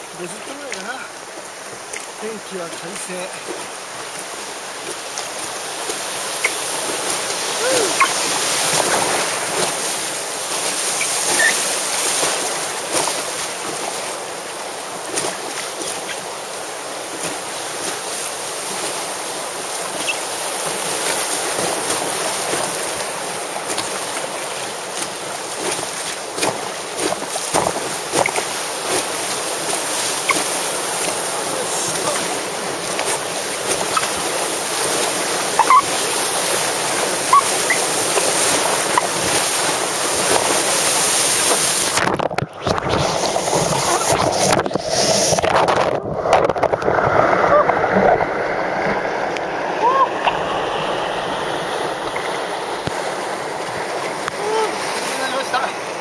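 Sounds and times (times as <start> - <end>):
river rapid rushing: 0.0 - 56.0
water splashes: 0.0 - 56.0.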